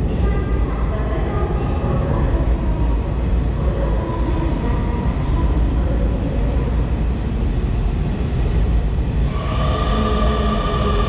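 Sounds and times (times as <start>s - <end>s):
faint steady whine: 0.0s - 11.0s
train wheels rumbling: 0.0s - 11.0s.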